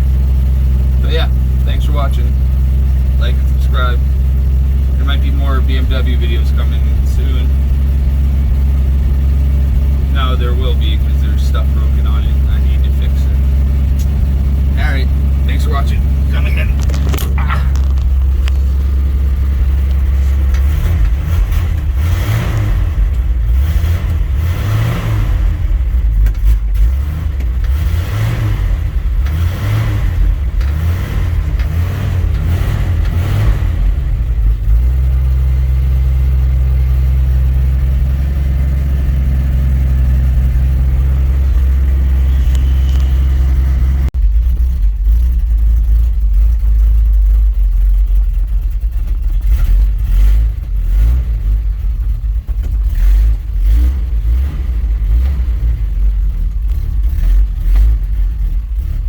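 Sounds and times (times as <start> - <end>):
pickup engine revving and idling: 0.0 - 59.0.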